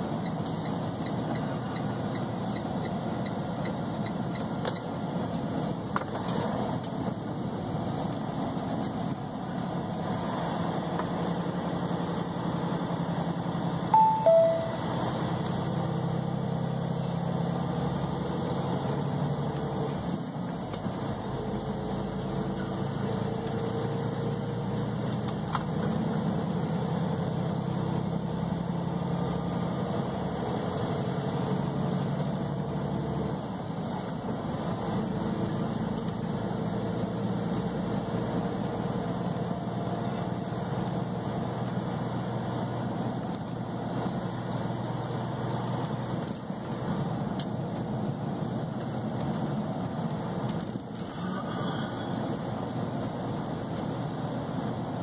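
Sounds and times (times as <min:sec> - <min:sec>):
road noise: 0:00.0 - 0:55.0
truck engine drone: 0:00.0 - 0:55.0.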